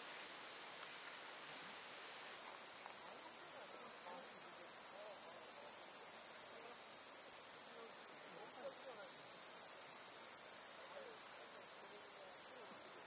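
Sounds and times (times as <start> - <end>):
insect chorus shrilling: 2.4 - 13.0.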